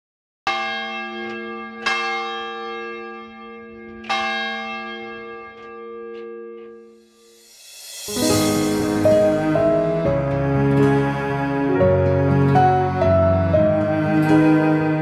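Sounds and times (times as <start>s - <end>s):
church bell ringing: 0.5s - 15.0s.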